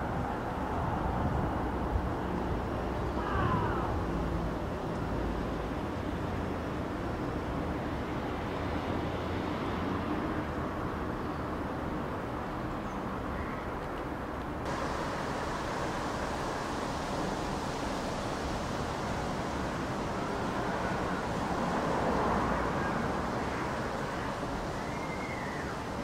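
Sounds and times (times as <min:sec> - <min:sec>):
traffic: 0:00.0 - 0:26.0
wind: 0:00.0 - 0:26.0.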